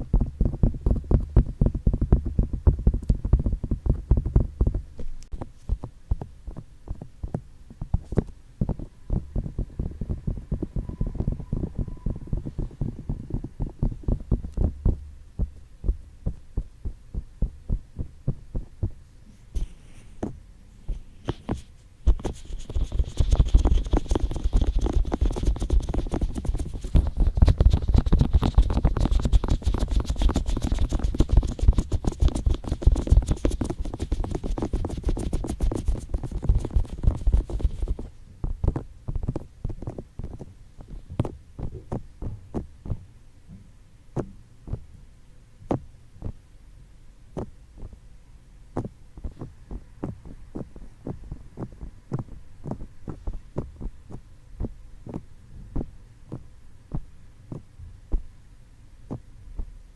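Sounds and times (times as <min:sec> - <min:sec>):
fingertips tapping microphone: 0:00.0 - 0:44.9, 0:45.6 - 0:46.4, 0:47.4 - 0:48.0, 0:48.7 - 0:58.3, 0:59.0 - 0:59.8.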